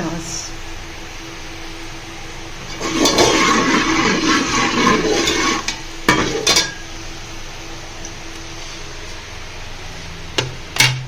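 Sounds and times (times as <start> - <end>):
onions sizzling in hot oil: 0.0 - 9.8.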